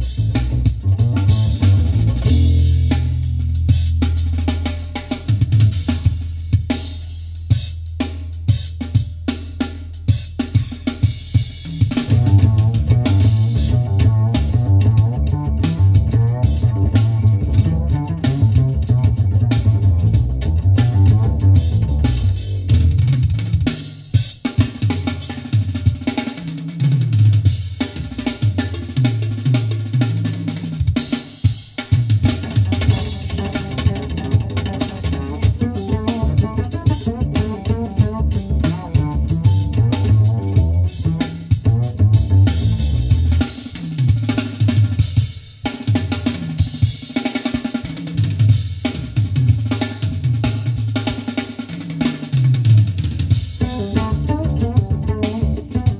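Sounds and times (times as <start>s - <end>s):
instrumental music with drums and bass: 0.0s - 55.9s.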